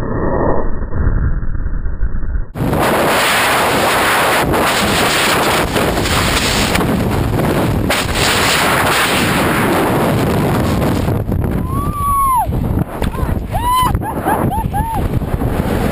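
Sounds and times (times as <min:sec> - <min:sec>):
wind buffeting microphone: 0:02.5 - 0:15.9.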